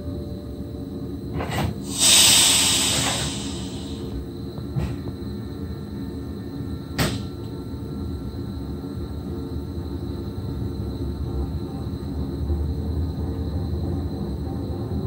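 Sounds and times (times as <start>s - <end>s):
train running rumble with whine: 0.0s - 15.0s.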